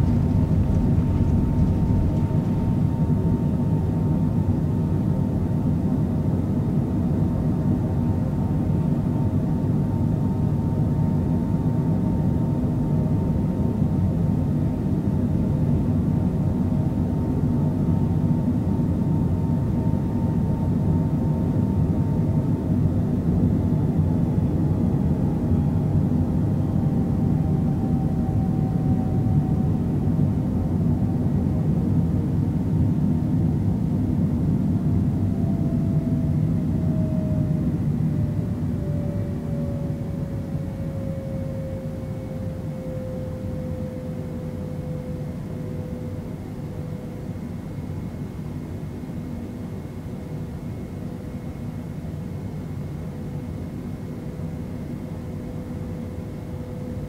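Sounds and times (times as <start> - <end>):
faint engine whine: 0.0 - 57.0
jet engines droning in cabin: 0.0 - 57.0.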